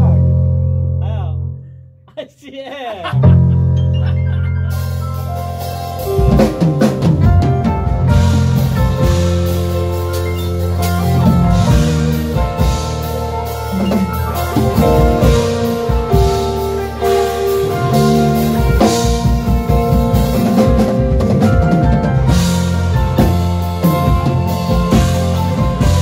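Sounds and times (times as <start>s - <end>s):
guitar: 0.0s - 1.8s, 3.0s - 26.0s
keyboard chords: 0.0s - 1.9s, 3.0s - 26.0s
bass: 0.0s - 26.0s
drum kit keeping time: 2.6s - 26.0s.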